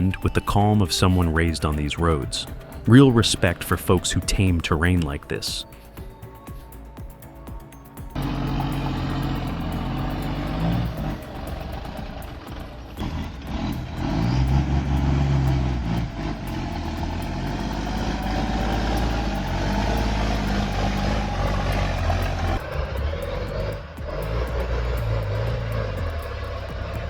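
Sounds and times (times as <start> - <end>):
truck engine labouring under load: 0.0 - 5.4, 8.1 - 27.0.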